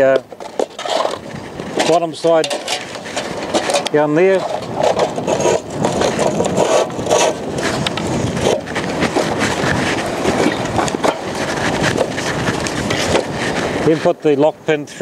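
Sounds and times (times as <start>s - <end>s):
metal frame knocking and scraping: 0.0s - 14.0s
steady rushing noise: 0.0s - 15.0s.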